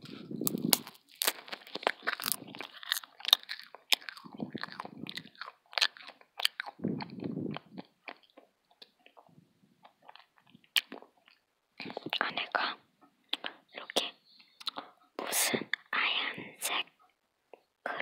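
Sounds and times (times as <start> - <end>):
candy crunching and chewing: 0.0 - 16.0.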